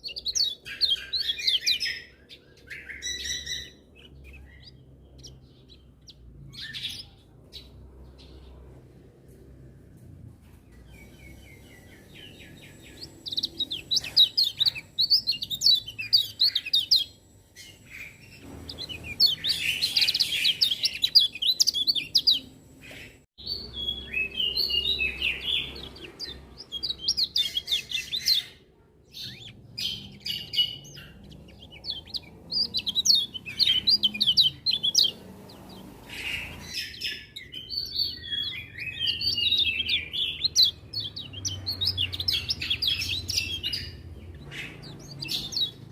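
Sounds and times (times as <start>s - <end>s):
bird twittering song: 0.0s - 45.9s.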